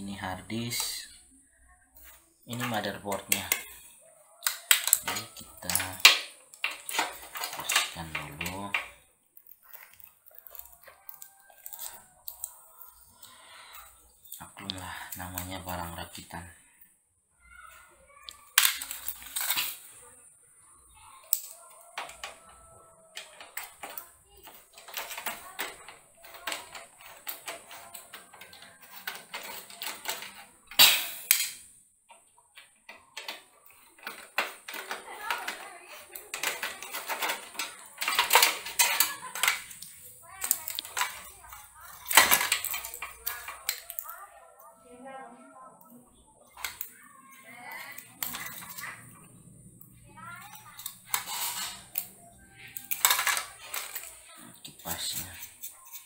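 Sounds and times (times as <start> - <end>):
computer parts clicking and knocking: 2.0 - 3.8, 4.4 - 16.4, 18.3 - 20.0, 21.2 - 44.2, 46.4 - 56.0.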